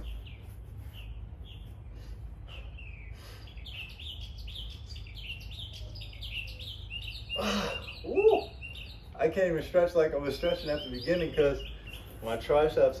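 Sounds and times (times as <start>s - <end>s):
low rumble of street noise: 0.0s - 13.0s
small birds chirping: 0.0s - 13.0s.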